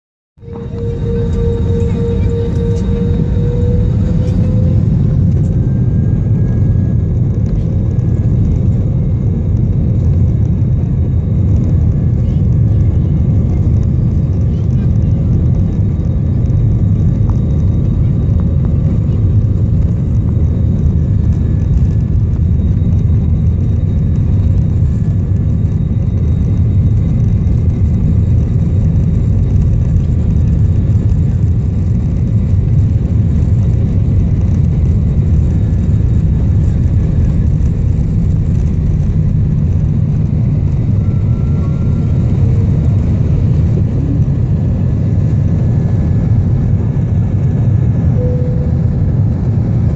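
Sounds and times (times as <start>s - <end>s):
faint steady whines: 0.4s - 49.9s
jet engines rumbling in cabin: 0.4s - 49.9s.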